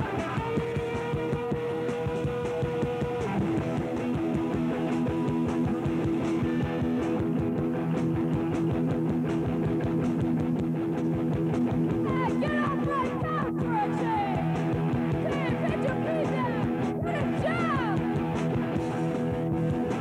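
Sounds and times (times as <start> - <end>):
electric guitar: 0.0 - 20.0
live rock band: 0.0 - 20.0.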